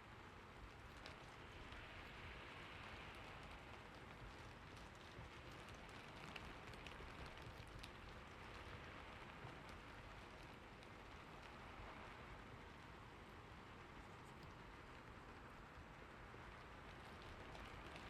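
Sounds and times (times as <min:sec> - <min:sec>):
faint rain: 0:00.0 - 0:18.0
raindrops ticking: 0:00.6 - 0:18.0.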